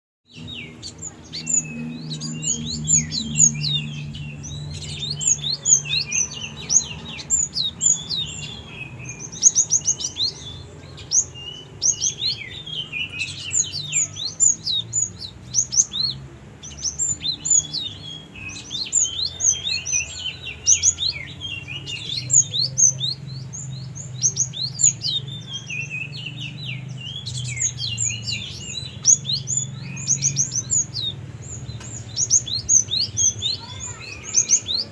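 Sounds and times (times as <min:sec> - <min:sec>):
bird chirping rapidly: 0:00.3 - 0:34.9.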